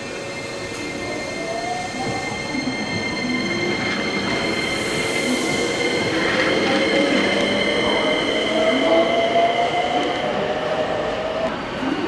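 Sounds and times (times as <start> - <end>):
high-pitched train squeal: 0.0 - 11.5
electric train rumbling: 0.0 - 12.0.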